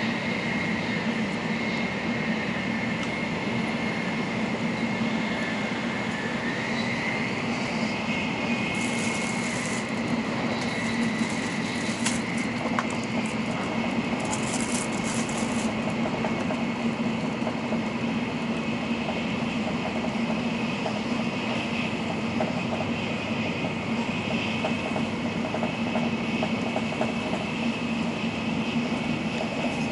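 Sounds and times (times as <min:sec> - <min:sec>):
train running noise inside cabin: 0:00.0 - 0:29.9.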